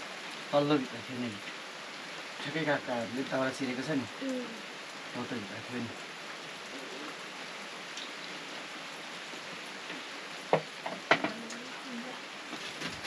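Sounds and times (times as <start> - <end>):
rain hissing on a surface: 0.0 - 13.0.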